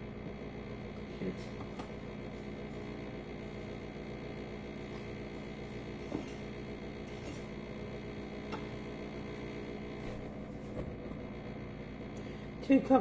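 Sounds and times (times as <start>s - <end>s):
background hum: 0.0s - 13.0s.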